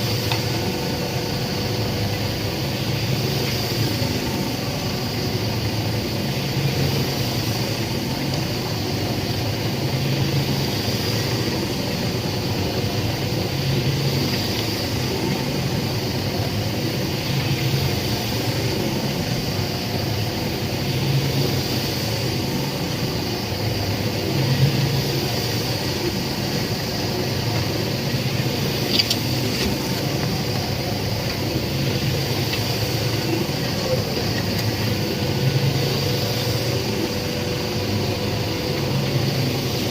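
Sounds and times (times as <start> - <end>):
concrete mixer humming: 0.0 - 39.9.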